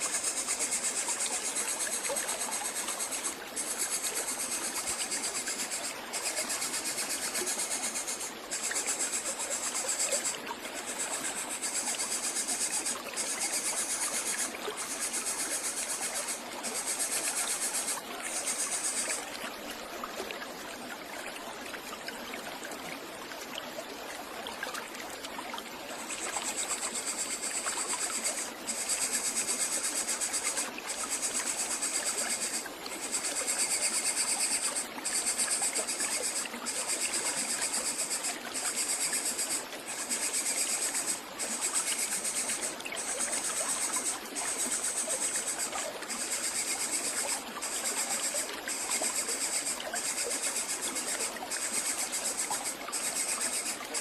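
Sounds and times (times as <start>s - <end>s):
insects buzzing: 0.0s - 19.2s, 26.0s - 53.8s.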